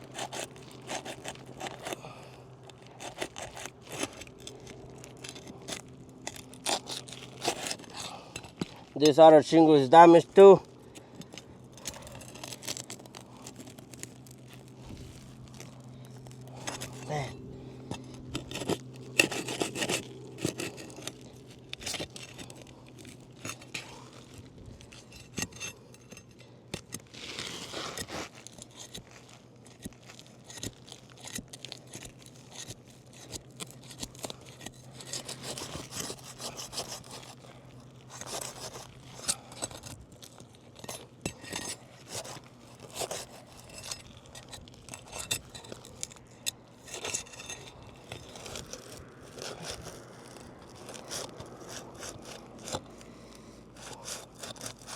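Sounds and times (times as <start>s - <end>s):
pry bar scraping roof shingles: 0.0s - 9.4s, 10.4s - 54.9s
steady low hum: 0.0s - 54.9s.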